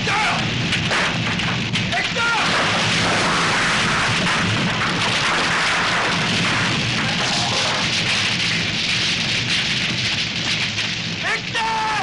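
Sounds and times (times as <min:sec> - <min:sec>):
fire roaring: 0:00.0 - 0:12.0.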